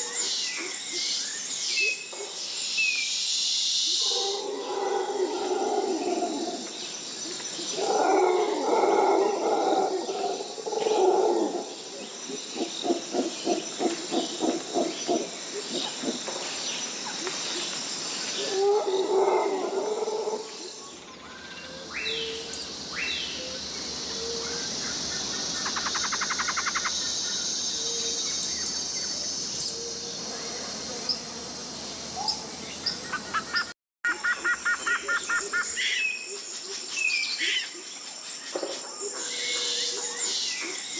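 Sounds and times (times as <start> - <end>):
high insect drone: 0.0 - 33.7.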